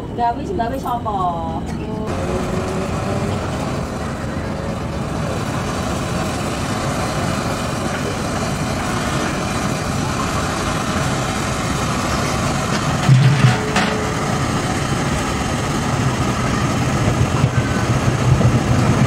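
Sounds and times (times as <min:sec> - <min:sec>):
electric train rumbling on rails: 0:00.0 - 0:19.0.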